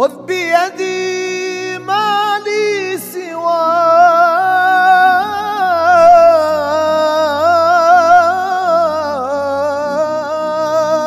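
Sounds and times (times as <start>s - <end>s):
person singing devotional song: 0.0s - 11.0s.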